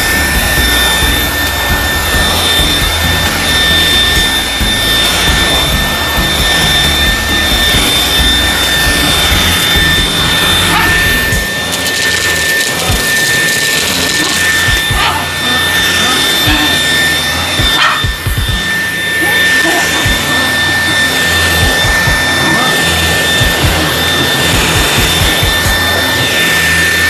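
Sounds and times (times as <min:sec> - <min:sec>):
vacuum head scrubbing bedding: 0:00.0 - 0:27.0
vacuum motor whine: 0:00.0 - 0:27.0.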